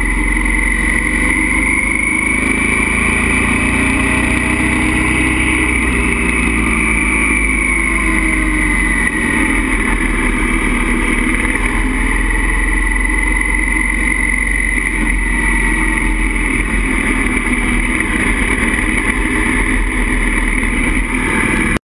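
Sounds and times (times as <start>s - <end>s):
motorcycle engine running: 0.0s - 21.8s.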